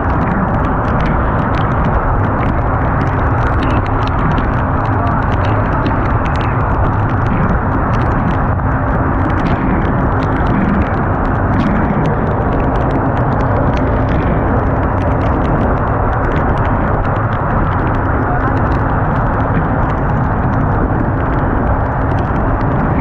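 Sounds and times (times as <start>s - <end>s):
crackles of spray: 0.0s - 23.0s
water against boat hull: 0.0s - 23.0s
wind rushing on microphone: 0.0s - 23.0s.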